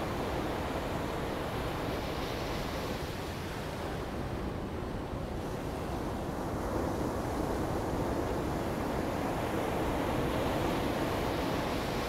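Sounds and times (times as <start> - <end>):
waves rushing on beach: 0.0 - 12.0.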